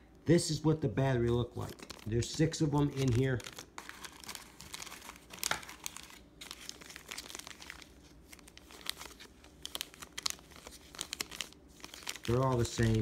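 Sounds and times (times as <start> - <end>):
plastic bags crinkling: 1.3 - 13.0.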